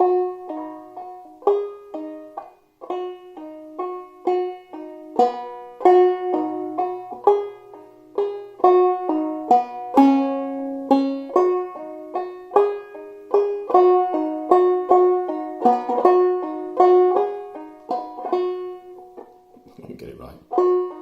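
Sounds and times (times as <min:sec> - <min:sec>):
banjo plucked notes: 0:00.0 - 0:21.0.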